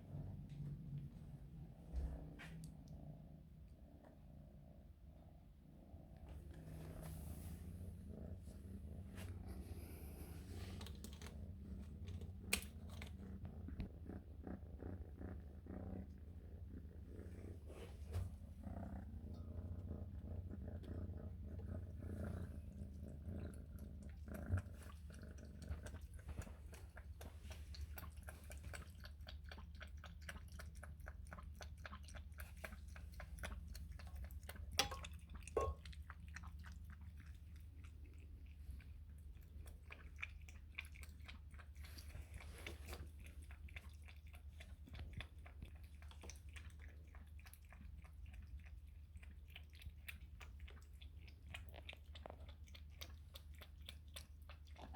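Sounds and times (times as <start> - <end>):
kitten lapping milk: 5.9 - 54.9.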